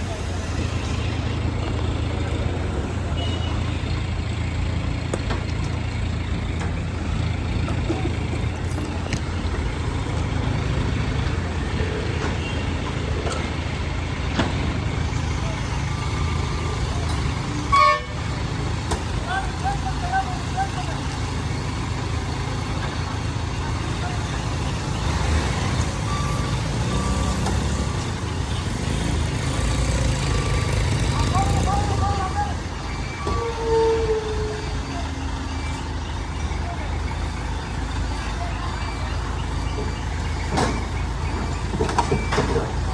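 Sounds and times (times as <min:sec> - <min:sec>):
rumble of road vehicles: 0:00.0 - 0:42.9.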